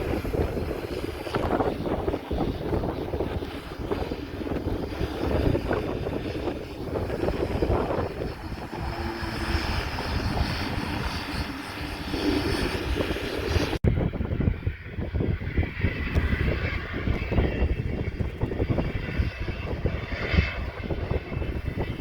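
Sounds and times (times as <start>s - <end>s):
propeller airplane engine droning: 0.0s - 22.0s
wind buffeting microphone: 0.0s - 22.0s.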